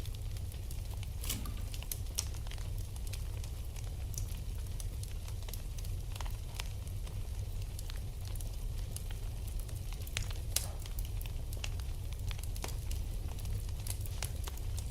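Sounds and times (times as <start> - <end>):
flames rumbling and hissing: 0.0 - 14.9
wood fire crackling: 0.0 - 14.9.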